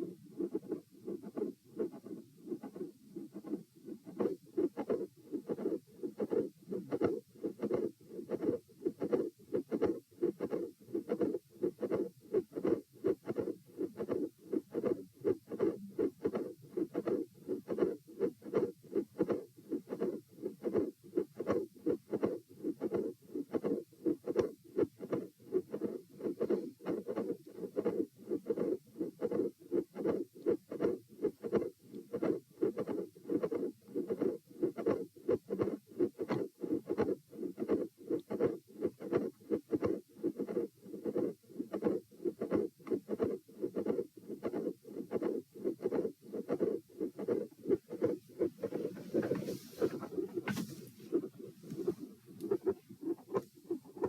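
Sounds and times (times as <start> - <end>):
heart murmur: 0.0 - 54.0
heartbeat through stethoscope: 0.0 - 54.0.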